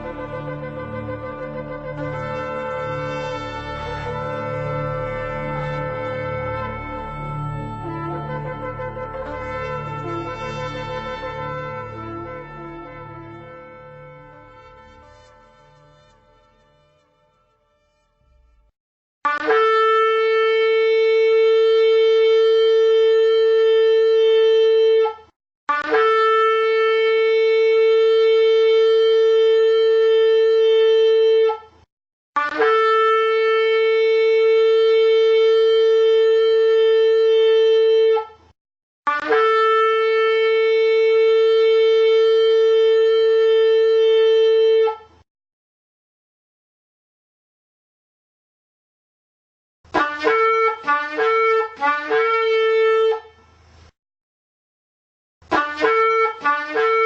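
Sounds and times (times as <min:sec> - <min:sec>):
shofar blasts: 0:00.0 - 0:31.7, 0:32.4 - 0:38.4, 0:39.1 - 0:45.2, 0:49.9 - 0:53.4, 0:55.5 - 0:57.0.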